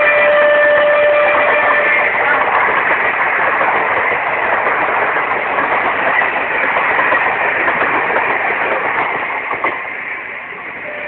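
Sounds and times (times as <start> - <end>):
train wheels clattering on rails: 0.0 - 10.8.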